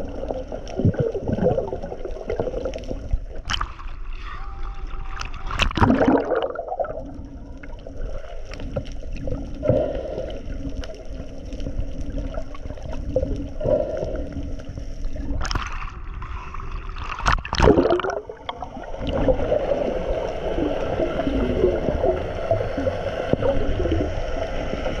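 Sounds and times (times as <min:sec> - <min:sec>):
water sloshing and gurgling: 0:00.0 - 0:25.0.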